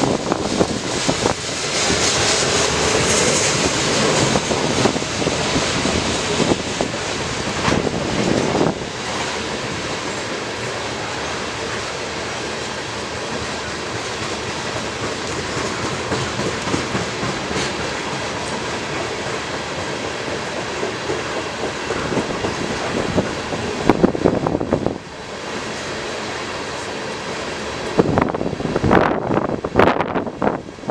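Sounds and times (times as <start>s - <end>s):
train wheels clattering over rails: 0.0s - 30.1s.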